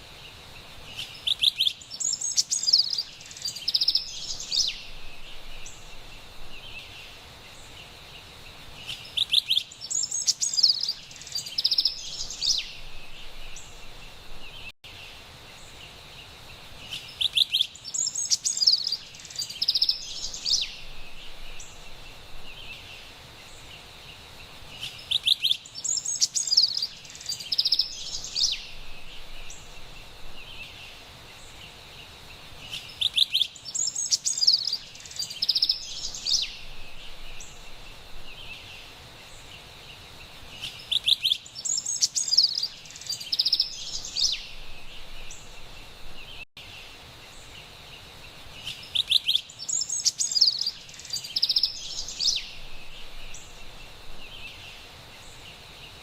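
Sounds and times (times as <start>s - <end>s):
faint forest background noise: 0.0s - 56.0s
wren singing: 0.9s - 7.8s, 8.8s - 14.7s, 16.8s - 23.9s, 24.7s - 31.8s, 32.6s - 46.7s, 48.5s - 56.0s.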